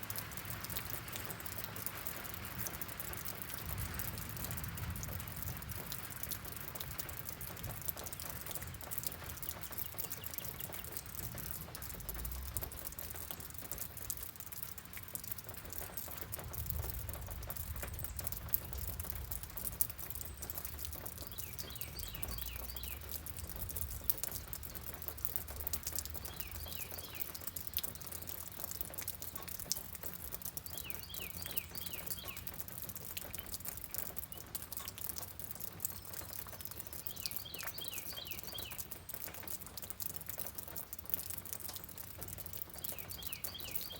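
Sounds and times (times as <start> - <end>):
rain pattering: 0.0 - 43.9.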